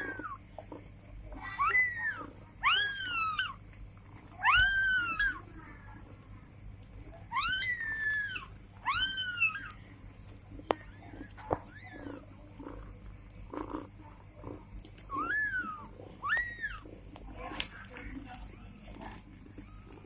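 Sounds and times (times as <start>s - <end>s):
kittens mewing: 0.0s - 0.5s, 1.3s - 6.1s, 7.1s - 9.8s, 10.8s - 20.0s.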